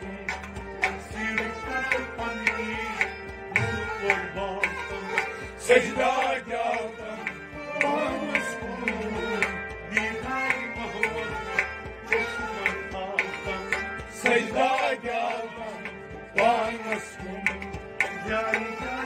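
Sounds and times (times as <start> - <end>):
hand drum rhythm: 0.0 - 19.0
sustained harmonium tones: 0.0 - 19.0.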